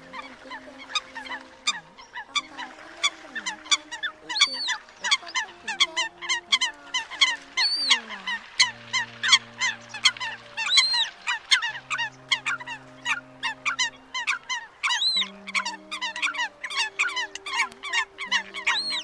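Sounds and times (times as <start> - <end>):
coots calling in chorus: 0.0 - 19.0
higher arching bird calls: 0.0 - 19.0
low held tones: 0.0 - 19.0.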